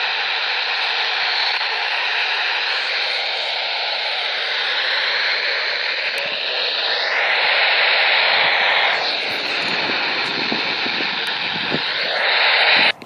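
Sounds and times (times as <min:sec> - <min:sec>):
loud static hiss: 0:00.0 - 0:13.0.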